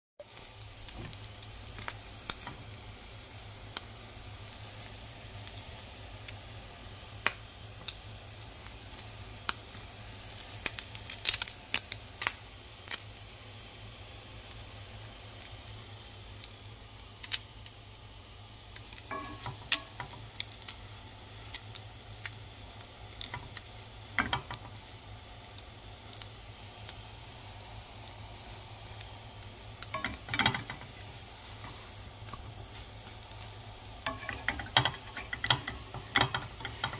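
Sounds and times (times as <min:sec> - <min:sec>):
crackles and pops: 0:00.2 - 0:13.3, 0:15.3 - 0:36.9
food sizzling in a pan: 0:00.2 - 0:36.9.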